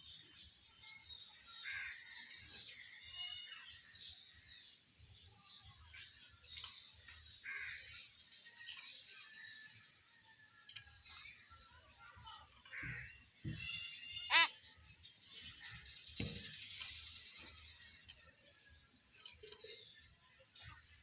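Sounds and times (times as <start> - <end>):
faint bird calls and chirps: 0.0 - 21.0.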